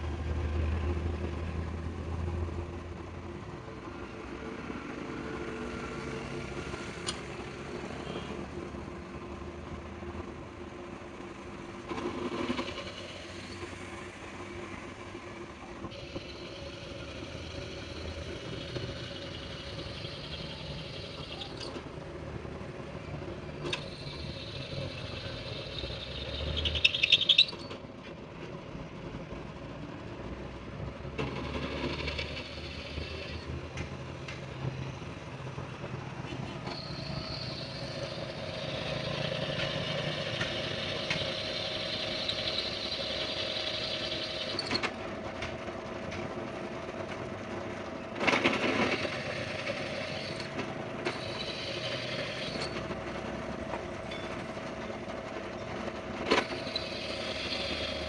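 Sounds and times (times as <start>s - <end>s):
vehicle engines running: 0.0s - 58.0s.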